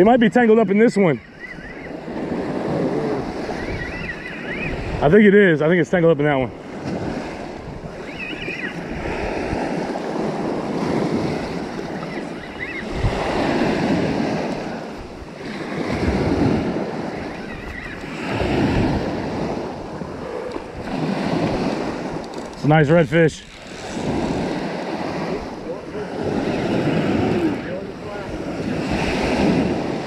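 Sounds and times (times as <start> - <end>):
small waves washing on sand: 1.8 - 30.0.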